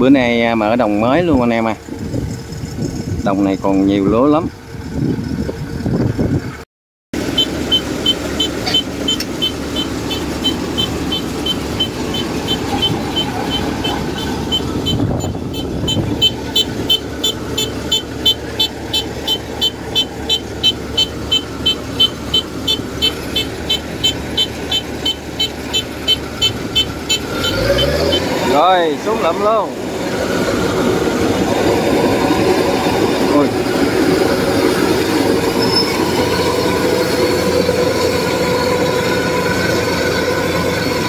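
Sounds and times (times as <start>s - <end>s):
combine harvester running: 7.2s - 41.0s.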